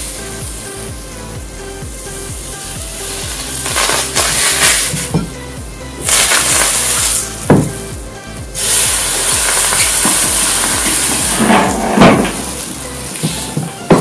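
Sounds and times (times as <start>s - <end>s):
hot knife sizzling: 0.0s - 14.0s.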